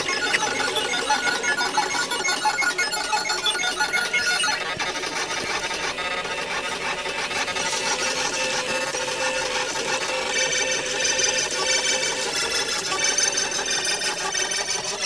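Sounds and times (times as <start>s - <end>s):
stepper motors whirring and buzzing: 0.0s - 15.0s.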